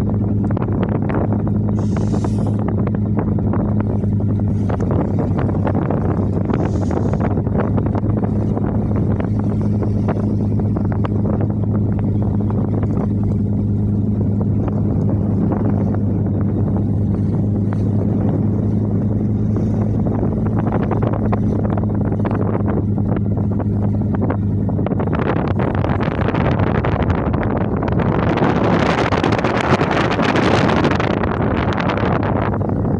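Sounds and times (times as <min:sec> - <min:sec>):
boat engine humming: 0:00.0 - 0:32.9
wind noise on microphone: 0:00.0 - 0:32.9.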